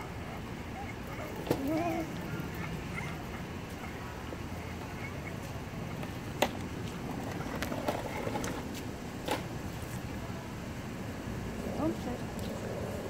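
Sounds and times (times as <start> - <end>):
street background hum: 0.0 - 13.0.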